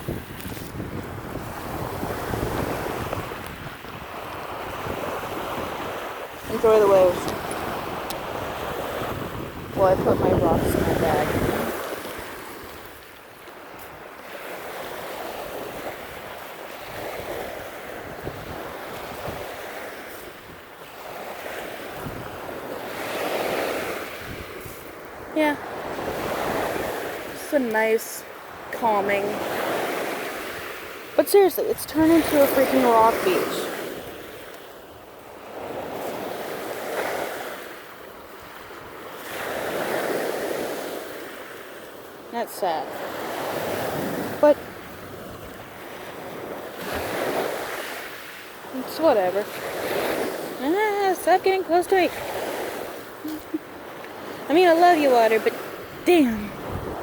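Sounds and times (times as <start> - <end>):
wind buffeting microphone: 0.0 - 37.5, 43.2 - 57.0
waves washing onto rocky shore: 0.0 - 57.0.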